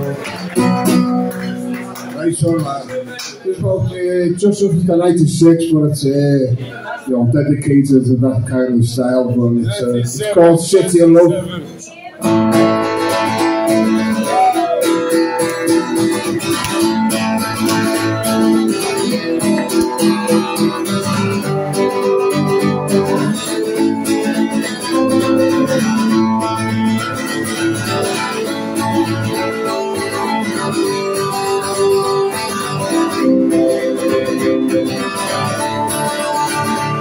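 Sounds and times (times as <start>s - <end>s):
acoustic guitar strumming chords: 0.0s - 5.7s, 12.2s - 37.0s.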